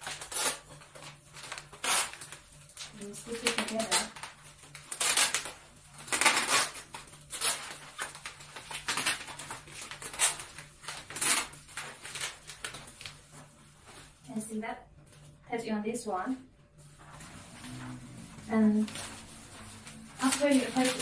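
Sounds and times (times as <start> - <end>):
wrapping paper rustling: 0.0 - 14.2, 16.8 - 21.0.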